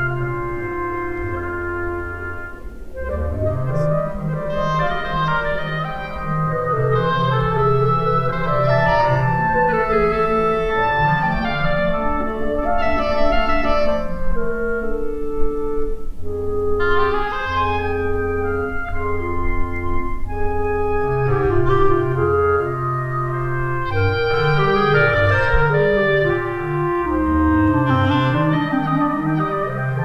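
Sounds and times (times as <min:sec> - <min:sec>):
orchestral instrumental music: 0:00.0 - 0:30.0.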